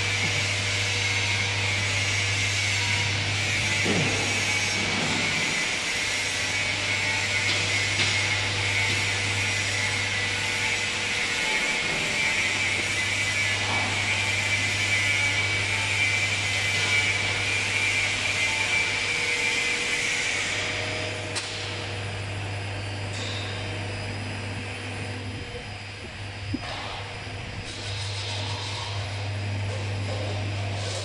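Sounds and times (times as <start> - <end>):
machine low hum: 0.0 - 31.0.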